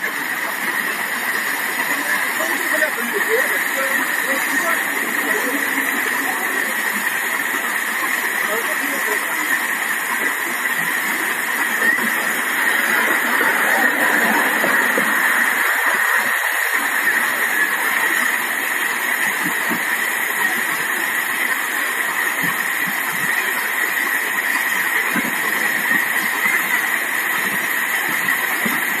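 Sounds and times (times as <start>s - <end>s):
paddlewheel churning water: 0.0s - 29.0s.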